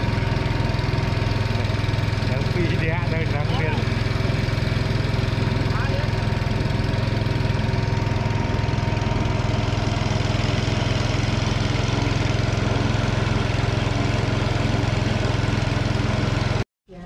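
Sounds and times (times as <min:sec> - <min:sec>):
small boat engine droning: 0:00.0 - 0:17.0.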